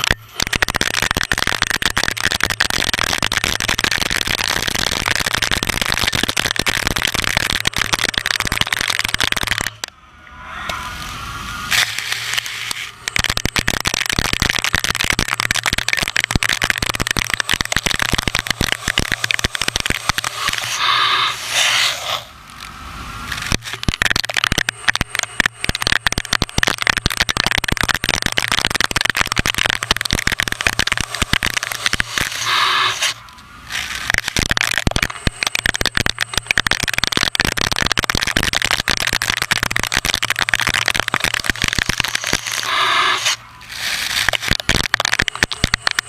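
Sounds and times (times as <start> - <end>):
lathe tool crackling in metal: 0.0 - 9.9, 10.8 - 46.0
low steady hum: 0.0 - 46.0.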